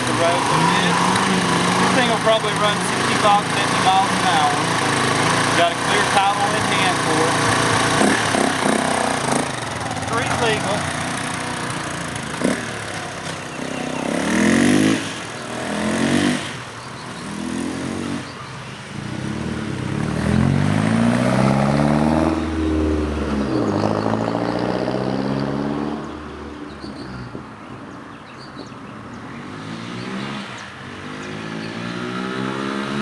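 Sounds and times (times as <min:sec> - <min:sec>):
motorcycle engine revving: 0:00.0 - 0:27.1, 0:29.3 - 0:33.0.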